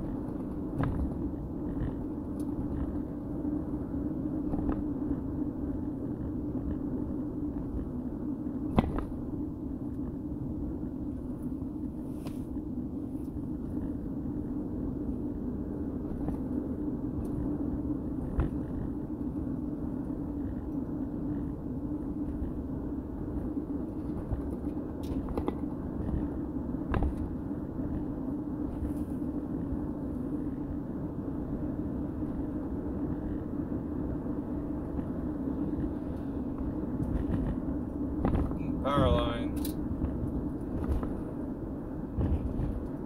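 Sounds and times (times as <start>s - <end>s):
vehicle engine and tyre drone: 0.0s - 43.0s.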